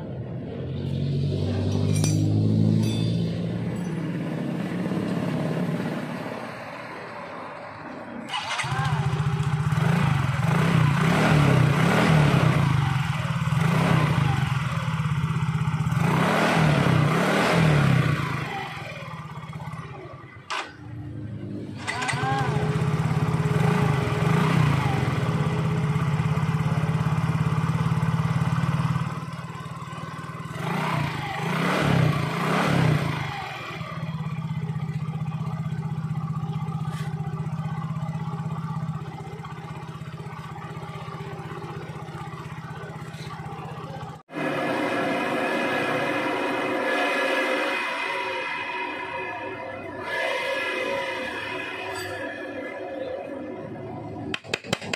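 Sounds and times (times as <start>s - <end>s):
scooter engine revving: 8.2s - 54.9s.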